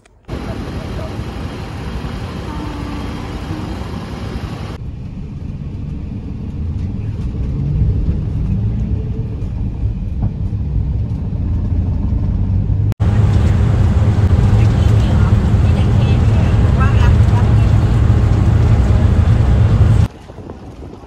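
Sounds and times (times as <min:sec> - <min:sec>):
city street traffic: 0:00.0 - 0:20.1
road drone inside a moving van: 0:00.0 - 0:20.3
vehicle engine and tyres rumbling: 0:00.0 - 0:21.0.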